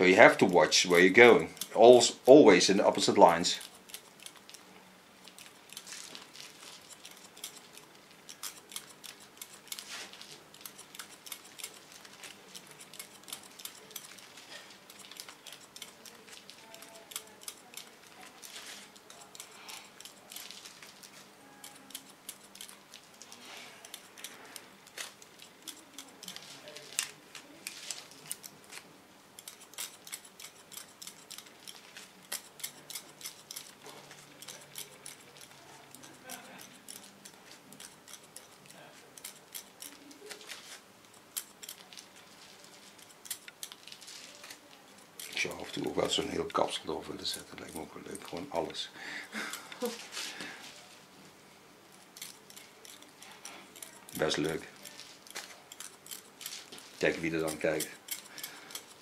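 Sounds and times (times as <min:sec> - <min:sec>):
scissors snipping hair: 0:00.0 - 0:04.6, 0:05.2 - 0:50.9, 0:51.9 - 0:59.0.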